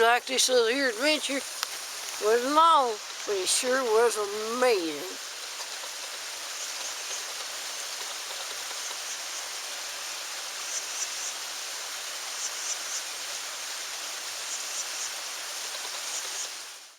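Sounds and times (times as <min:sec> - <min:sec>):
rushing outdoor background noise: 0:00.0 - 0:16.9.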